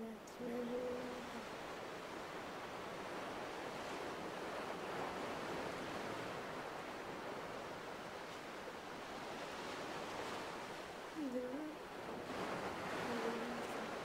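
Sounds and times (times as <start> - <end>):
sea waves on rocky shore: 0.0 - 14.0.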